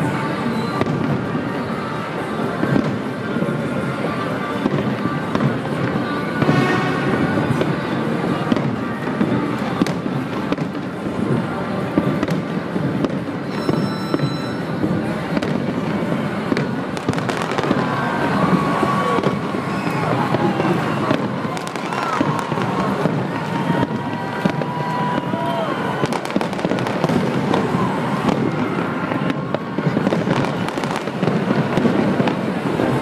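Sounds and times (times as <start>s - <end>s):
fireworks crackling: 0.0s - 33.0s
fireworks sharp bangs: 0.0s - 33.0s.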